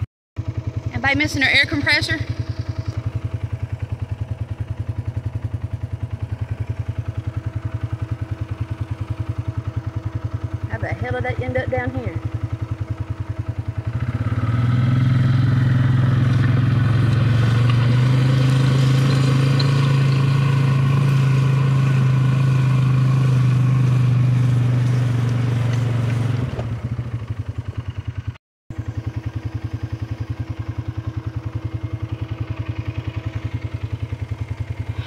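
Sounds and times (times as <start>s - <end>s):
atv engine idling and pulling away: 0.0s - 35.0s.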